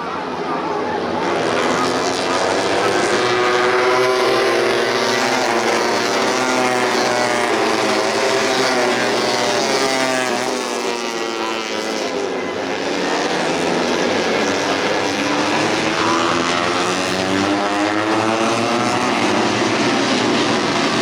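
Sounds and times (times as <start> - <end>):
racing motorcycles at high revs: 1.0 - 21.0.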